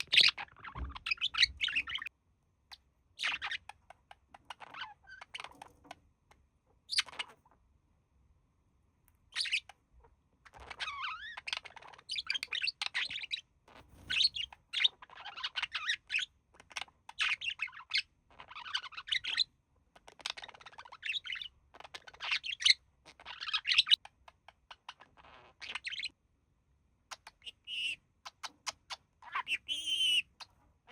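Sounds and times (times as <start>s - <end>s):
budgerigars chirping and chattering: 0.0s - 2.1s, 2.7s - 6.0s, 6.8s - 7.4s, 9.3s - 9.8s, 10.4s - 26.1s, 27.1s - 30.9s.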